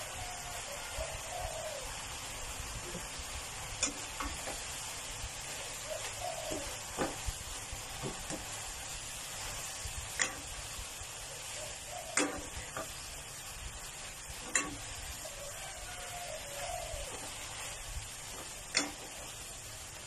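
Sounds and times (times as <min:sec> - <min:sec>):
greens sizzling in pan: 0:00.0 - 0:20.0.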